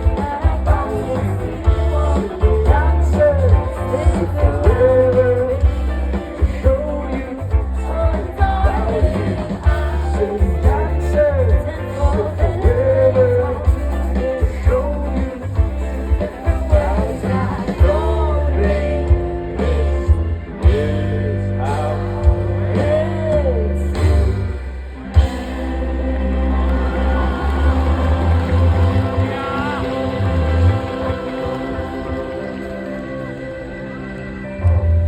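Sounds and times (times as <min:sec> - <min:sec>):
person singing: 0:00.0 - 0:24.6, 0:25.2 - 0:34.3
booming bass: 0:00.0 - 0:32.5
drums: 0:00.0 - 0:35.0
guitar: 0:00.0 - 0:35.0.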